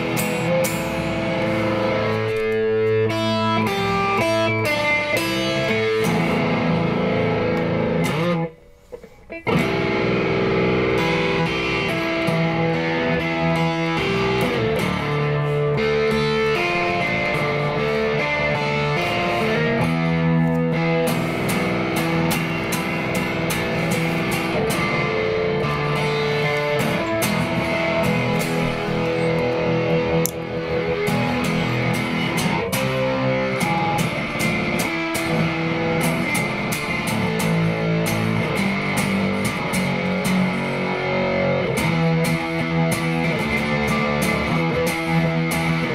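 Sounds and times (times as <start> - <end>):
electric guitar through effects: 0.0 - 45.9.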